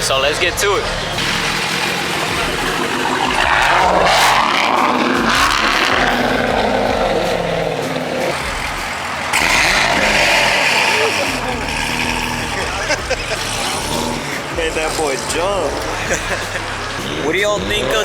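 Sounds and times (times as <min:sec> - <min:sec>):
car engine revving and pulling away: 0:00.0 - 0:18.0.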